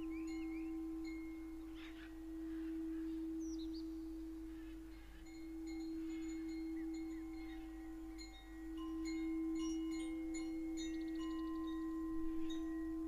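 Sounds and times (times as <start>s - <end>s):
birds chirping: 0.0s - 12.9s
singing bowl low tone: 0.0s - 13.0s.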